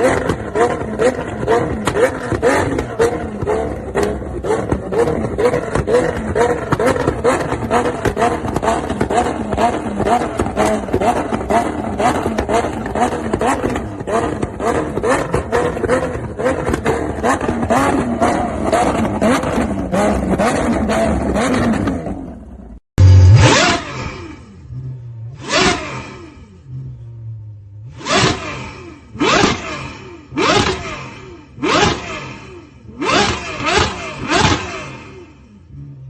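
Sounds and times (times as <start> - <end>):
car engine crackling exhaust: 0.0 - 36.0.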